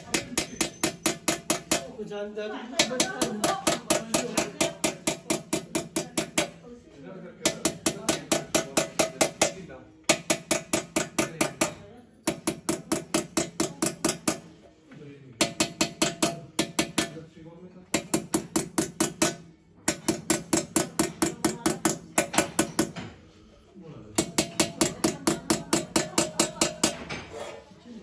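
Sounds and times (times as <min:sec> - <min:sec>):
hammer tapping metal punch: 0:00.0 - 0:02.0, 0:02.8 - 0:06.6, 0:07.4 - 0:14.6, 0:15.4 - 0:17.2, 0:17.9 - 0:23.2, 0:24.2 - 0:27.3.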